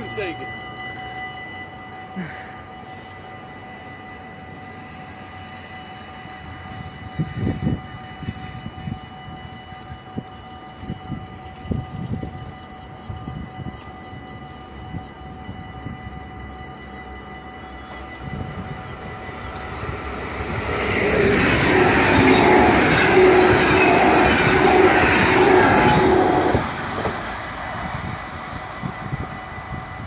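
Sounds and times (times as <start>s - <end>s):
crossing warning bells: 0.0s - 30.0s
train passing at speed: 0.0s - 30.0s.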